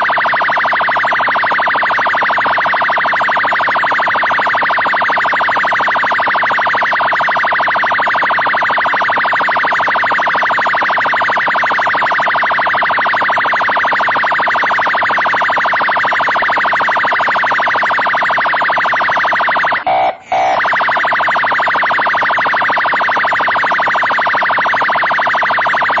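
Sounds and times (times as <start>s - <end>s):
police siren rapid warble: 0.0s - 26.0s.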